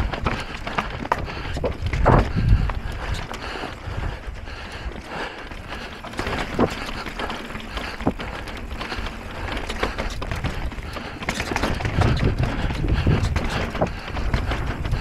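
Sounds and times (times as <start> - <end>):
bike knocking and rattling: 0.0 - 15.0
wind and tyre noise: 0.0 - 15.0.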